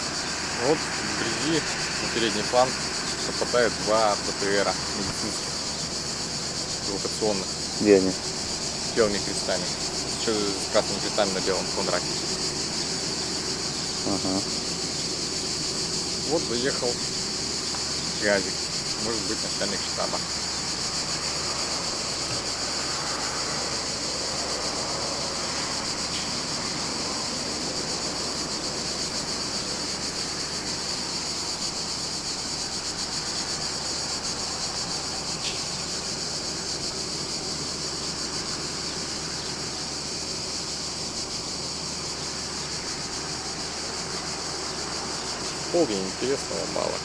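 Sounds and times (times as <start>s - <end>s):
high-pitched hiss: 0.0s - 47.0s.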